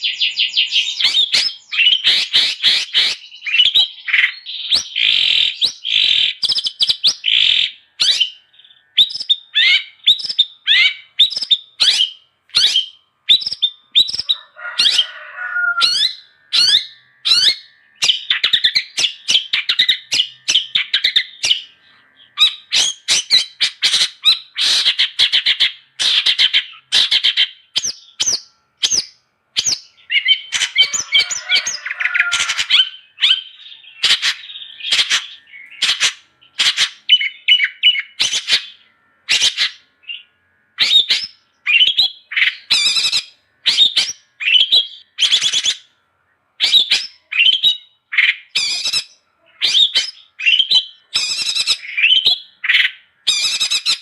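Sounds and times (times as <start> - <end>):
rough low bird call: 0.0 - 29.0, 29.6 - 45.5
bird singing sharp chirps: 0.0 - 45.9, 46.6 - 54.0.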